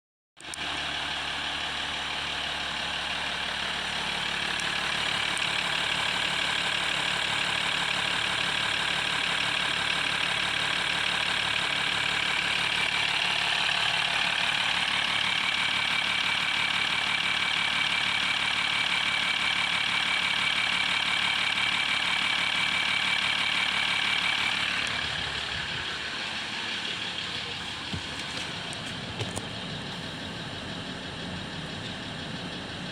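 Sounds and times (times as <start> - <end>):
diesel engine idling: 0.4 - 32.9.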